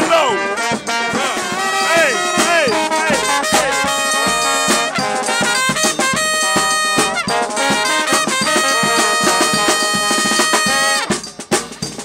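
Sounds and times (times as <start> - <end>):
steady drum beat: 0.0 - 12.0
trumpets and trombones: 0.0 - 12.0.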